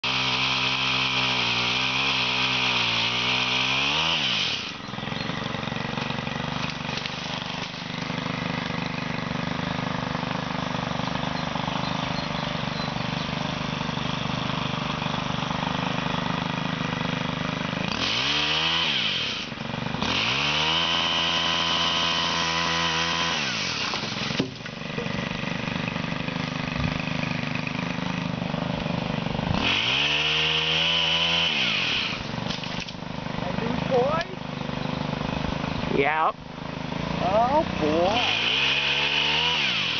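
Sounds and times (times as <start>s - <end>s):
pole saw engine revving and idling: 0.0s - 39.9s.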